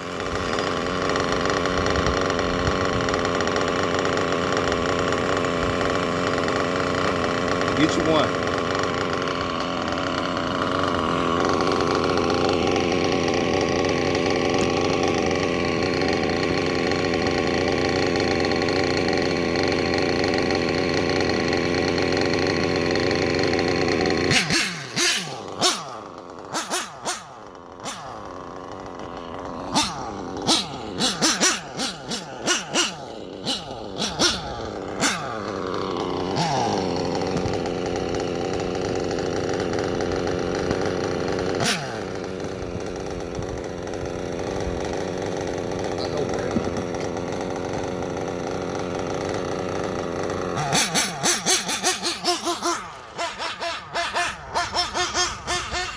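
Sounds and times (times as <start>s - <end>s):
small nitro engine running: 0.0s - 55.9s.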